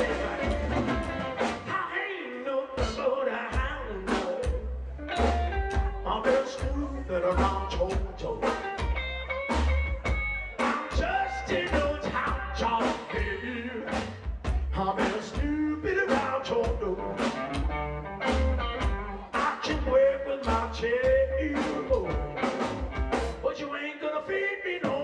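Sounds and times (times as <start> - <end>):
upright double bass: 0.0 - 1.8, 2.8 - 23.5
drum kit beat: 0.0 - 1.9, 2.8 - 23.5, 24.8 - 25.0
man singing: 0.0 - 8.8, 10.6 - 17.6, 19.2 - 22.7, 23.4 - 25.0
electric guitar: 0.0 - 23.5.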